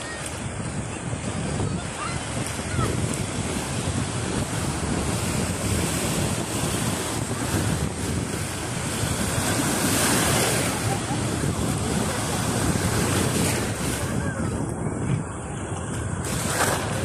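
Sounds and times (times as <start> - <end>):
waves washing over rocky shore: 0.0 - 17.0
wind buffeting microphone: 0.0 - 17.0.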